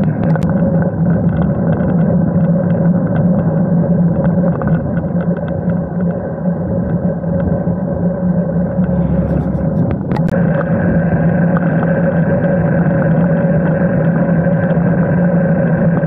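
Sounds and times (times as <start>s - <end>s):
bike tyre noise on road: 0.0s - 16.0s
wind rushing over camera: 0.0s - 16.0s.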